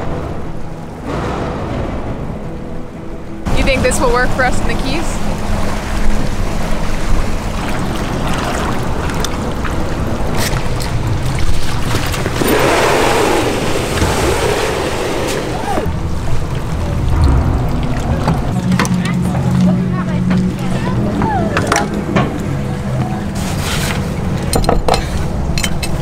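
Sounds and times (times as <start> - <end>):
water noise: 0.0 - 26.0
wind rumble: 0.0 - 26.0.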